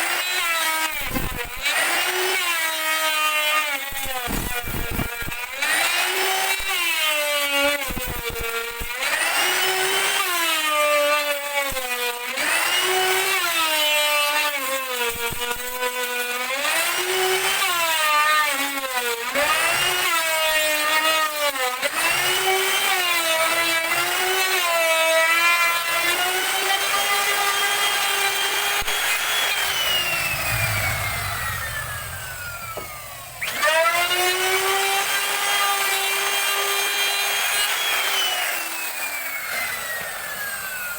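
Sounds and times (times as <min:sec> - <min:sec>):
power tool motor whining cutting wood: 0:00.0 - 0:40.9.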